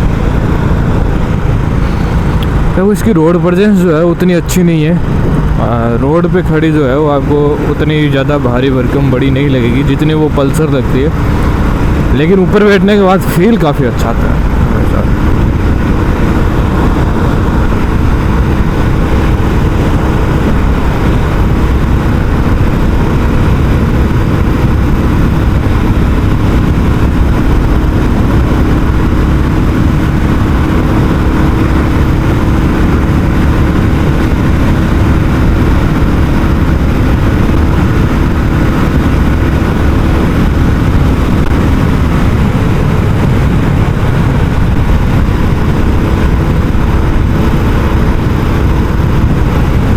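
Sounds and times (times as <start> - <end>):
motorcycle engine running steadily: 0.0 - 49.9.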